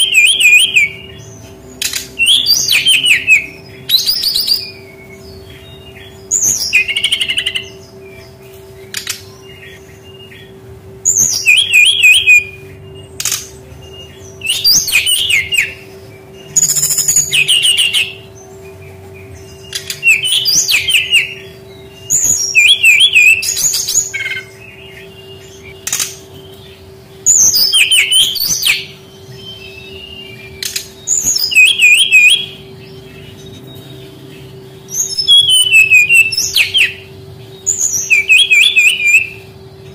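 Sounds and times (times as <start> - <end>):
bird singing high warbling notes: 0.0 - 39.9
faint steady hum: 0.0 - 39.9.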